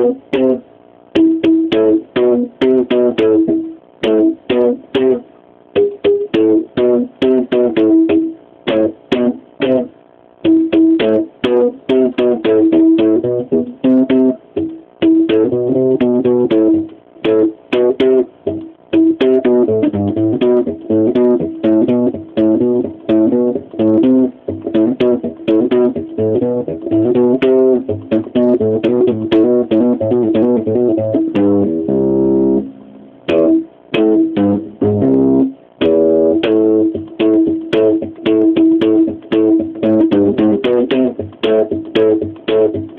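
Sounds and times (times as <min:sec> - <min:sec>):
electric bass guitar riffs: 0:00.0 - 0:42.9.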